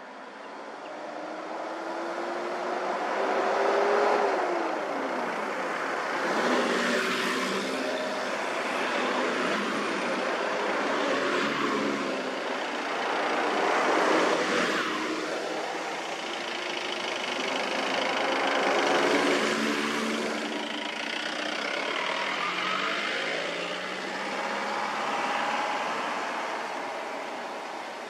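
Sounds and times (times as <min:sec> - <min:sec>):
minibuses driving past: 0:01.0 - 0:28.0.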